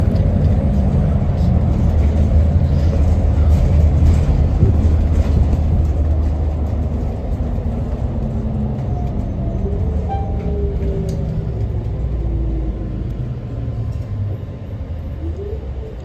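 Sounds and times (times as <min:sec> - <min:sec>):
bus engine droning: 0:00.0 - 0:16.0
road noise: 0:00.0 - 0:16.0.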